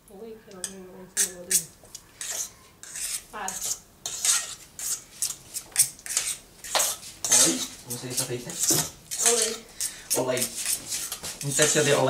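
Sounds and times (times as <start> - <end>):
spoon scraping metal pot: 0.6 - 12.0.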